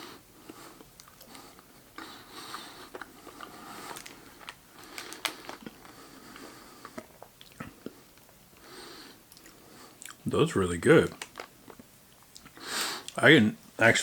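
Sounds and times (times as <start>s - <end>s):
person chewing close to microphone: 0.4s - 8.7s, 9.3s - 10.2s, 11.1s - 13.2s.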